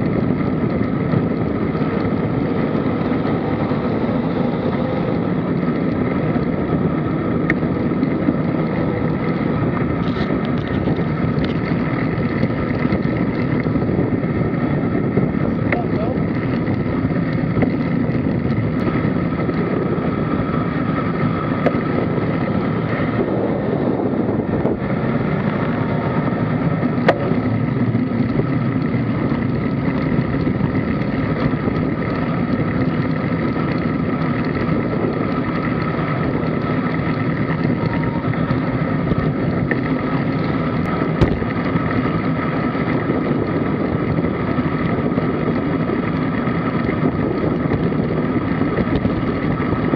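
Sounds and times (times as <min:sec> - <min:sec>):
tyre and road noise: 0:00.0 - 0:49.9
wind rush on microphone: 0:00.0 - 0:49.9.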